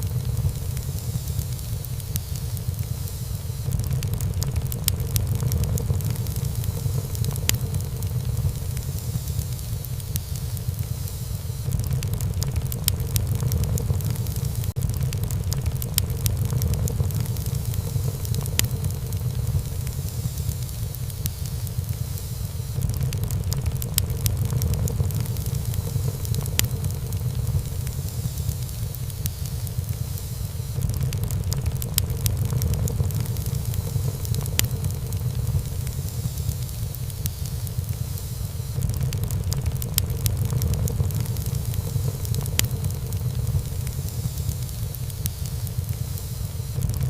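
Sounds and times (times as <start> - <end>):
low rumble of flames: 0.0 - 47.0
wood fire crackling and popping: 0.0 - 47.0.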